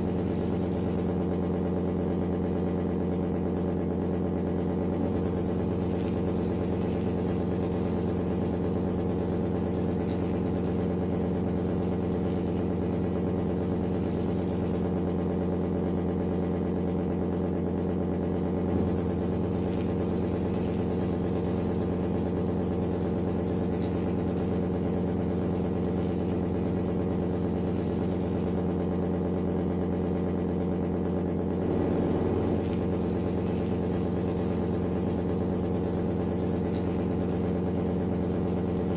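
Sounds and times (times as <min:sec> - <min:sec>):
engine-like idling drone: 0:00.0 - 0:38.9.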